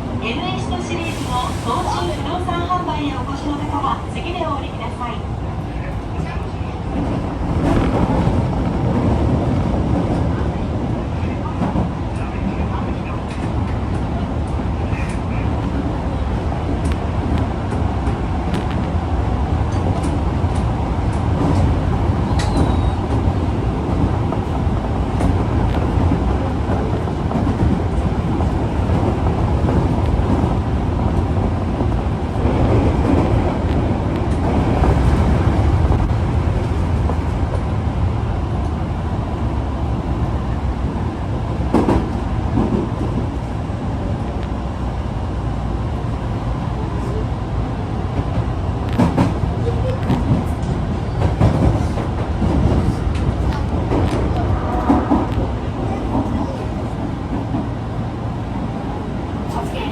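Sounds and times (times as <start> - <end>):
subway car rumbling: 0.0 - 59.9.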